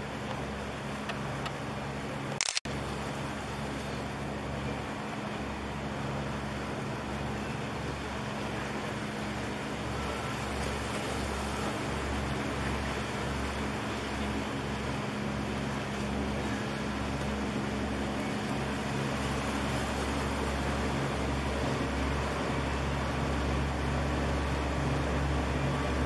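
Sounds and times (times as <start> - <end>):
constant hum: 0.0 - 26.0
engine drone: 0.0 - 26.0.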